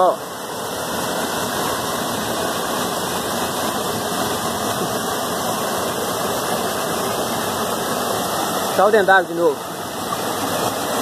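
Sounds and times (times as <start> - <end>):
stream running over rocks: 0.0 - 11.0
waterfall rushing: 0.0 - 11.0.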